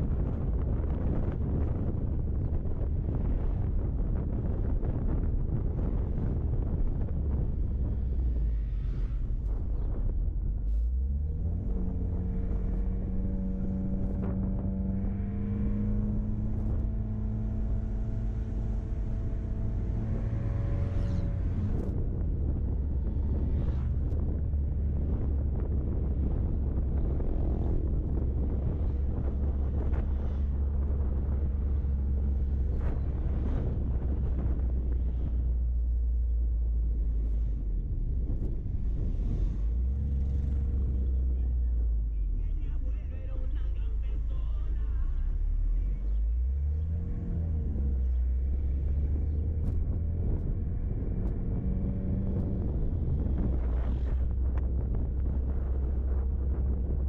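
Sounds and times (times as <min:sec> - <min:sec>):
wind on microphone: 0:00.0 - 0:42.8, 0:43.5 - 0:57.0
car driving rumble: 0:00.0 - 0:57.0.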